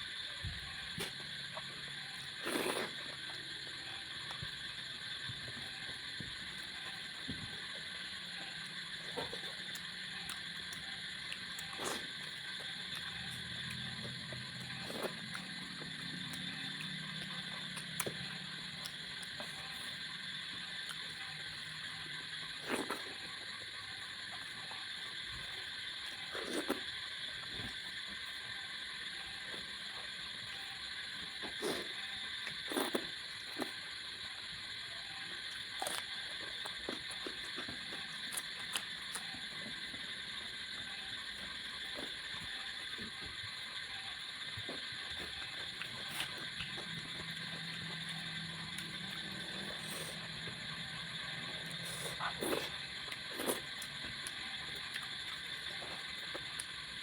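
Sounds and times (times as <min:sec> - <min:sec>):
person chewing food: 0:00.9 - 0:07.9, 0:08.6 - 0:21.7, 0:22.4 - 0:30.1, 0:31.2 - 0:34.2, 0:35.4 - 0:43.6, 0:44.4 - 0:56.8.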